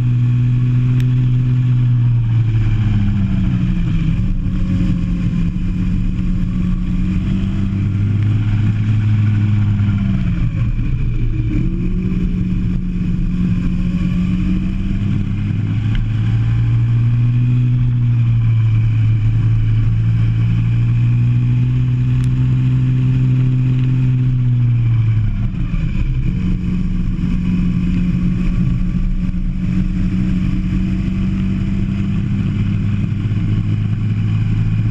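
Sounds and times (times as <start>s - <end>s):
go-kart engine running hard: 0.0s - 34.9s.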